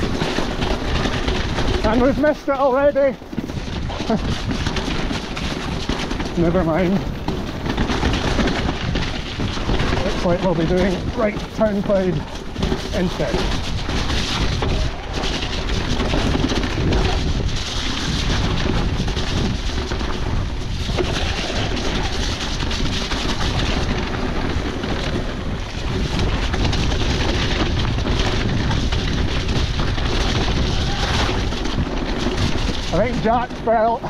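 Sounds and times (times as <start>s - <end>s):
bike rattling over bumps: 0.0s - 34.0s
bike tyres rolling: 0.0s - 34.0s
wind rushing over microphone: 0.0s - 34.0s.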